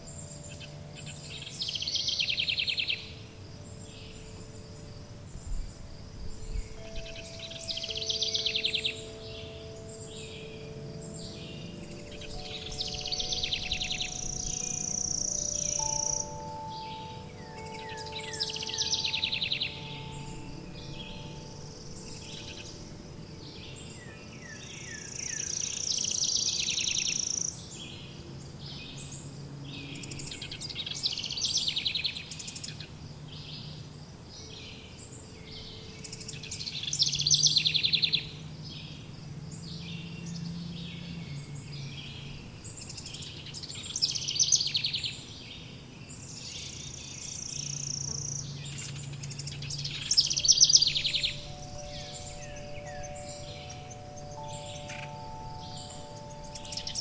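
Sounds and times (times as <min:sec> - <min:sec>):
faint low background: 0:00.0 - 0:57.0
songbirds singing with trills: 0:00.0 - 0:57.0.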